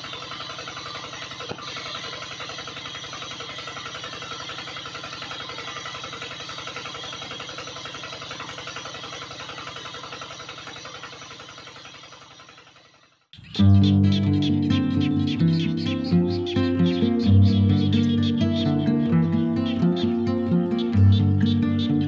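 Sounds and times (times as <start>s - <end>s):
small water pump motor buzzing: 0.0s - 22.0s.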